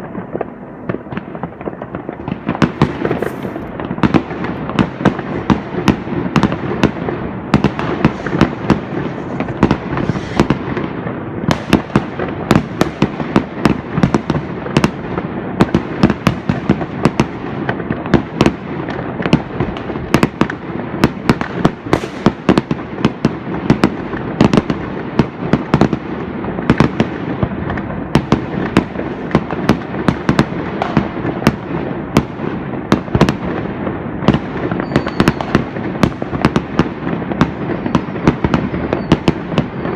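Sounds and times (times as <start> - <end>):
fireworks bangs and cracks: 0.0 - 39.9
rumble of distant explosions: 0.0 - 39.9.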